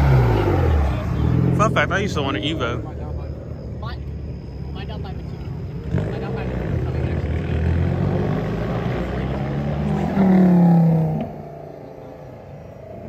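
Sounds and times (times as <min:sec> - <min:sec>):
car engine revving: 0:00.0 - 0:03.6, 0:05.4 - 0:13.0.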